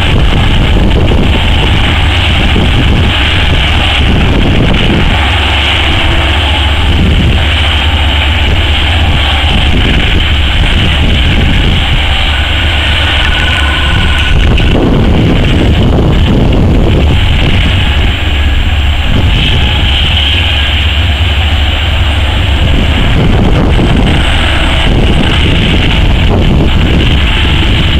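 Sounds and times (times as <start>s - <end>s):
diesel engine deep drone: 0.0s - 27.9s.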